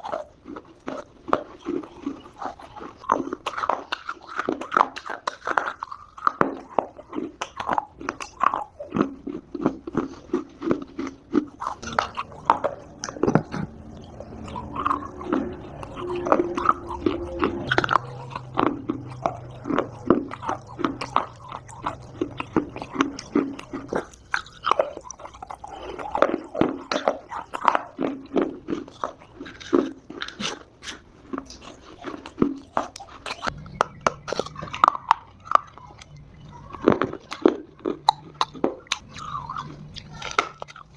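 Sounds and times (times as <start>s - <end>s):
chewing dry clay chunks: 0.0s - 40.9s.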